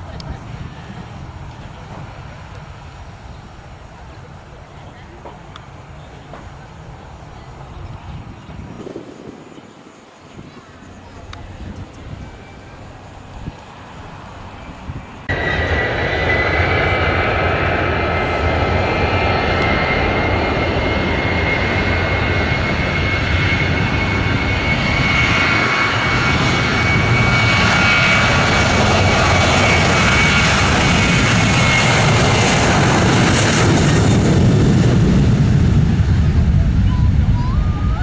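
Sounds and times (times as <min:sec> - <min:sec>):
jet engines rushing and whining: 0:00.0 - 0:38.0.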